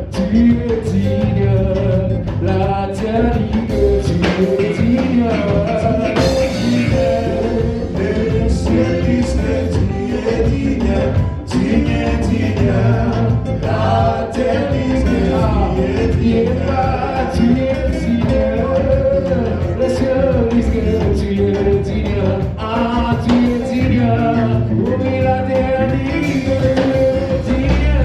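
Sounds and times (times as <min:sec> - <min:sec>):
gospel band playing: 0:00.0 - 0:28.0
group singing: 0:00.0 - 0:28.0.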